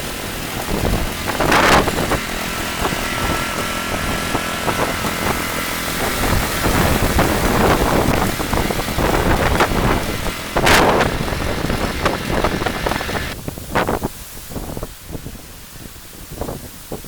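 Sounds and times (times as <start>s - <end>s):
storm wind gusting on microphone: 0.0s - 17.0s.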